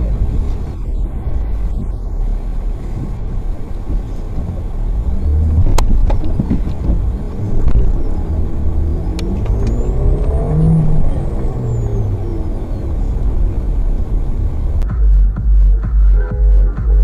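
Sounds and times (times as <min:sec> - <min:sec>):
car engine rumble: 0:00.0 - 0:17.0
tyre noise: 0:00.0 - 0:17.0.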